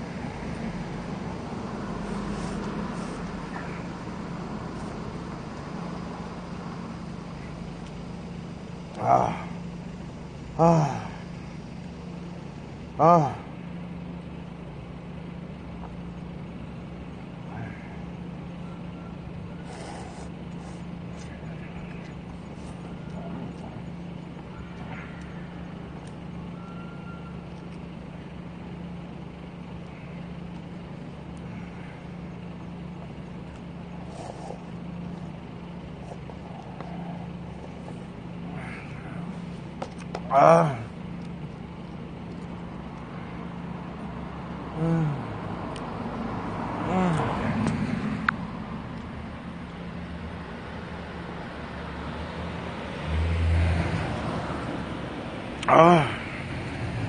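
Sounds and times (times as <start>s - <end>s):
low mechanical hum: 0.0s - 57.0s
road traffic hiss: 0.0s - 57.0s.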